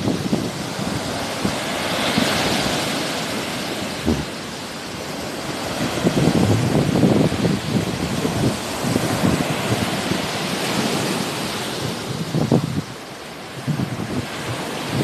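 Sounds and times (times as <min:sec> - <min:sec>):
sea waves washing ashore: 0:00.0 - 0:15.0
wind gusting on microphone: 0:00.0 - 0:15.0.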